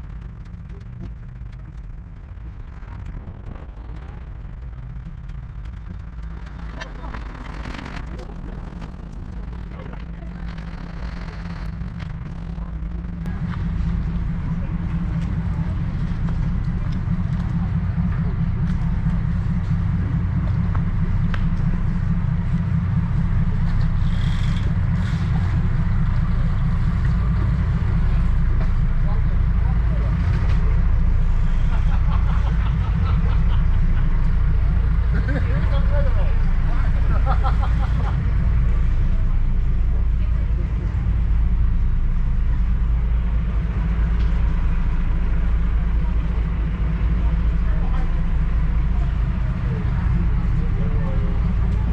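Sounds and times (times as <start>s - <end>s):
boat engines droning: 0.0s - 51.9s.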